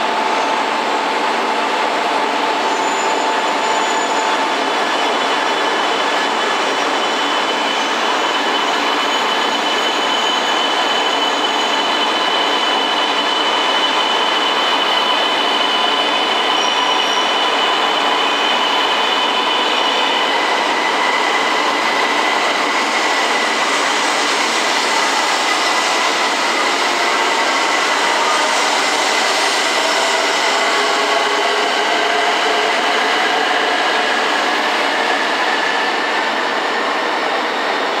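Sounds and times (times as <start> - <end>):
train running with high whine: 0.0 - 38.0.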